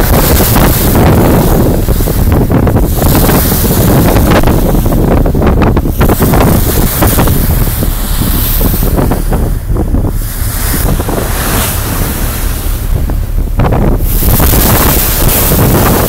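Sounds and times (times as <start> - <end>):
choppy water rushing along hull: 0.0 - 16.0
wind buffeting microphone: 0.0 - 16.0.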